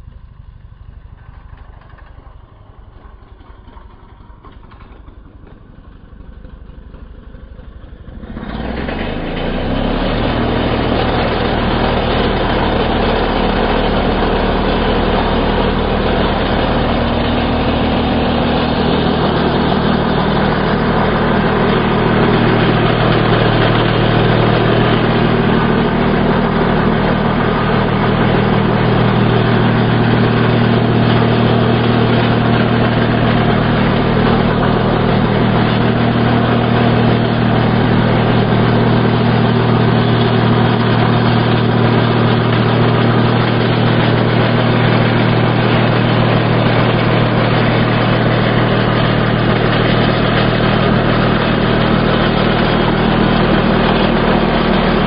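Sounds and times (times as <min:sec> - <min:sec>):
hedge trimmer engine running: 0:00.8 - 0:55.0.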